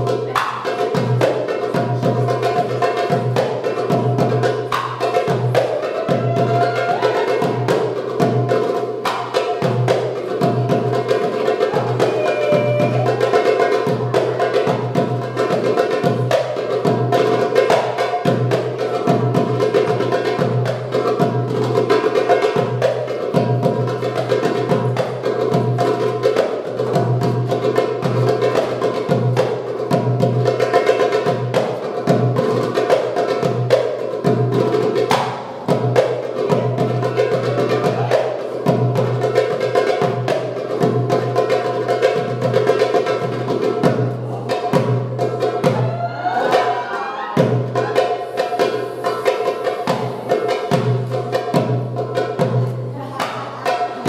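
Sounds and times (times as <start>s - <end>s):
fast hand drum solo: 0.0s - 54.0s.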